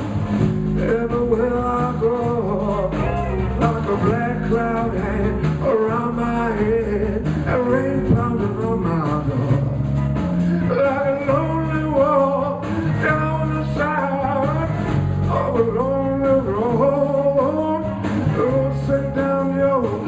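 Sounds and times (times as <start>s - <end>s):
blues band playing: 0.0s - 20.0s.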